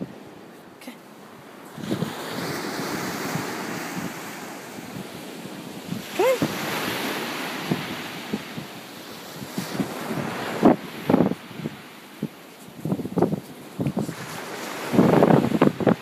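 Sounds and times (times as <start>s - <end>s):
surf washing on beach: 0.0s - 16.0s
wind buffeting microphone: 1.4s - 16.0s.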